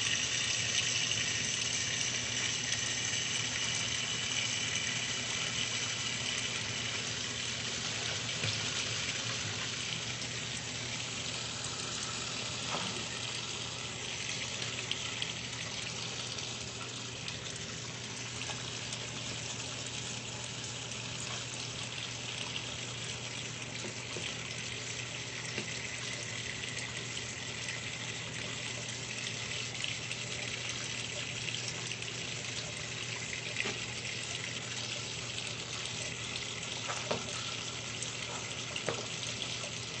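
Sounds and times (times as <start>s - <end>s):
water splashing in washing machine: 0.0s - 40.0s.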